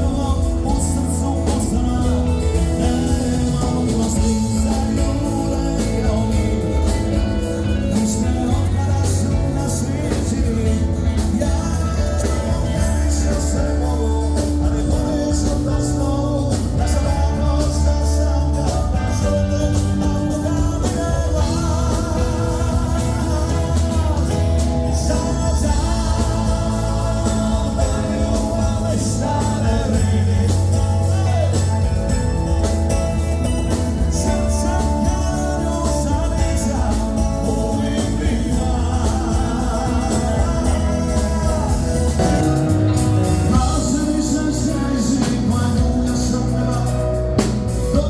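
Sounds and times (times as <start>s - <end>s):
bass and drums beat: 0.0s - 48.0s.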